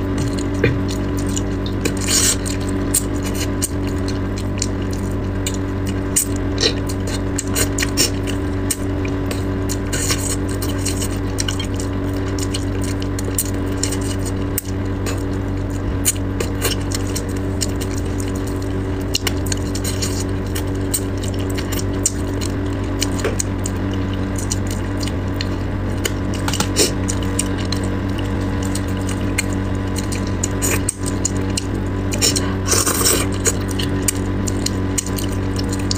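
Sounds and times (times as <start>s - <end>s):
low hum: 0.0s - 35.9s
wet mouth eating sounds: 0.0s - 35.9s.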